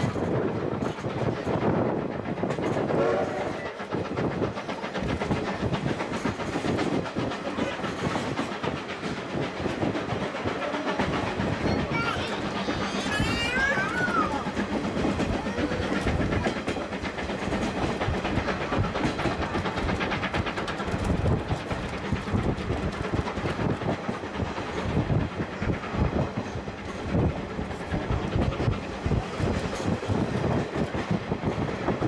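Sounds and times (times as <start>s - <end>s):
train coach rumbling: 0.0s - 32.0s
wheels clacking over rail joints: 0.0s - 32.0s.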